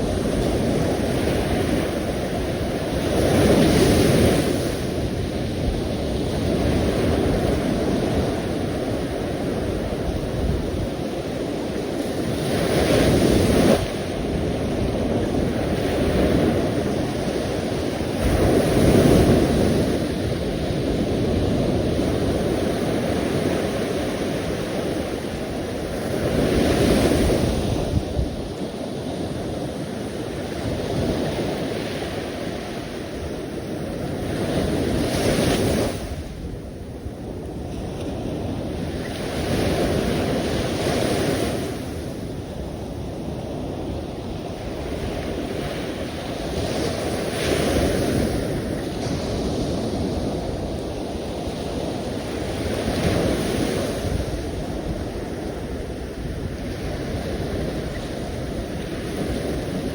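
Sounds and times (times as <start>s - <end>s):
sea surf: 0.0s - 59.9s.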